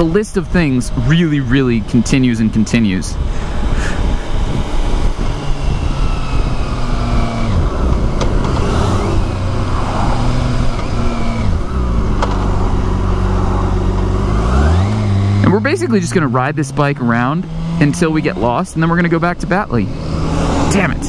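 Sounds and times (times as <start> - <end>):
wind and road noise: 0.0 - 21.0
motorcycle engine changing gear: 4.0 - 21.0.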